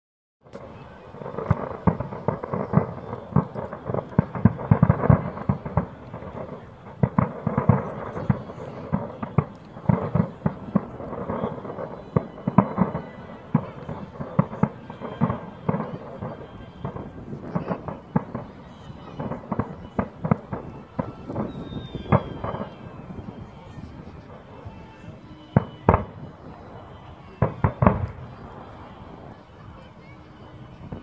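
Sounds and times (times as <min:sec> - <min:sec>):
fireworks bursting: 0:00.4 - 0:31.0.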